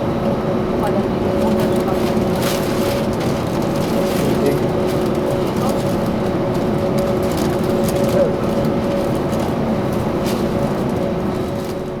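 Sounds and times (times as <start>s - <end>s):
jet airliner engines running: 0.0s - 12.0s.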